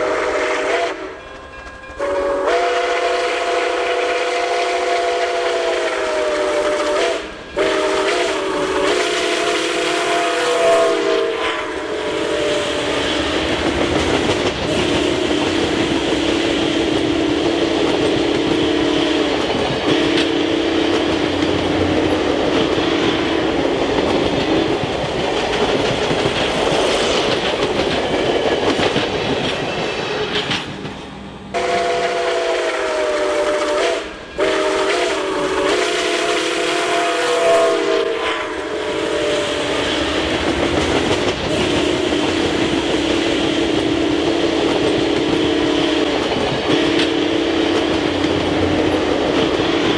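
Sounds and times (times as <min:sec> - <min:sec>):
steam locomotive whistle: 0:00.0 - 0:23.8, 0:31.5 - 0:49.9
train wheels clattering on rails: 0:00.0 - 0:36.9, 0:37.8 - 0:49.9.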